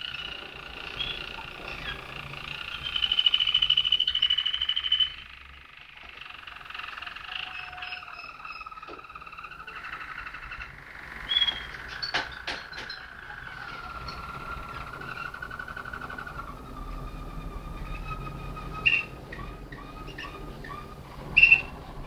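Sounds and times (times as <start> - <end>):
canary singing rolling trills: 0.0 - 22.0.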